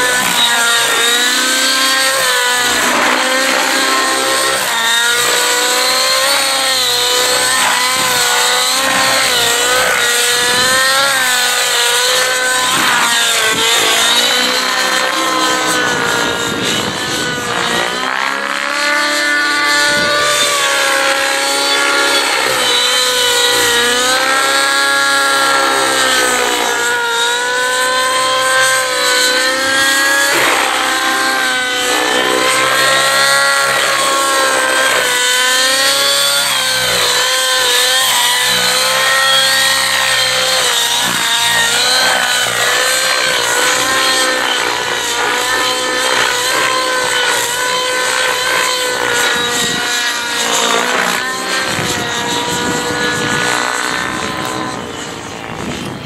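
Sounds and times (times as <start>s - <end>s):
model helicopter engine whine: 0.0s - 56.0s.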